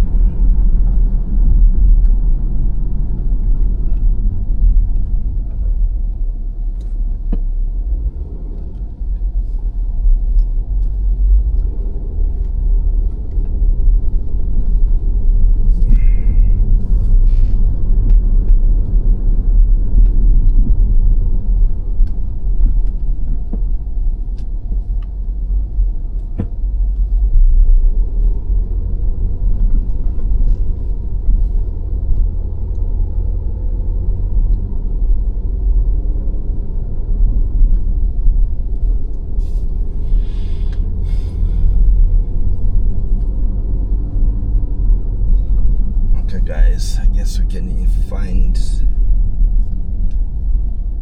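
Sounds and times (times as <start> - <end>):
car interior road noise: 0.0 - 51.0.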